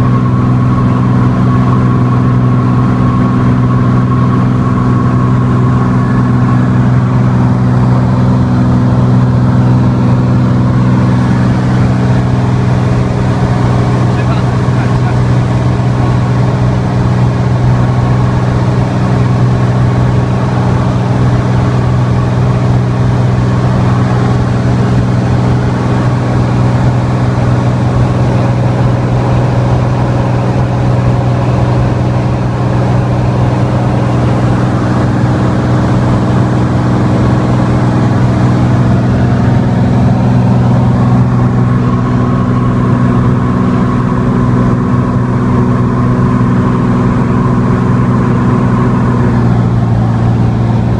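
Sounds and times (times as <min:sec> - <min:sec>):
light aircraft engine drone: 0:00.0 - 0:50.9.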